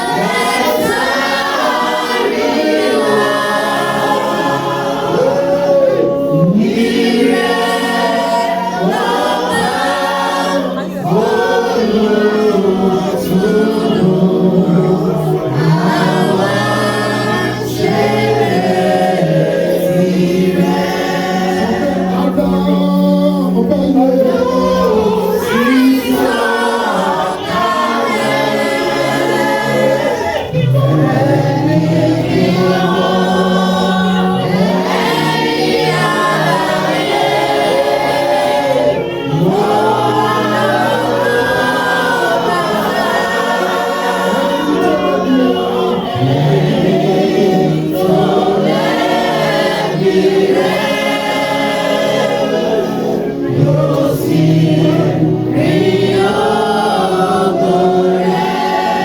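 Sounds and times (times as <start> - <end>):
choir singing gospel song: 0.0 - 59.0.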